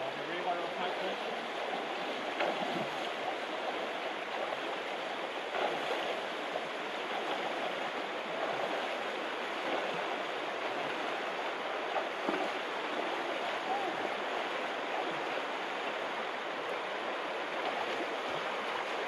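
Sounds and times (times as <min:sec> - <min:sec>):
river rippling over stones: 0:00.0 - 0:19.0
water splashing around wading legs: 0:00.9 - 0:19.0.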